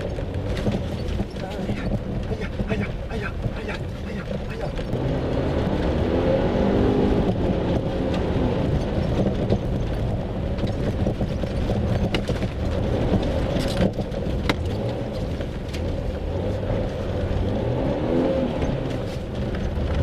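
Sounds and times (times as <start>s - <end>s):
car engine running hard: 0.0s - 20.0s.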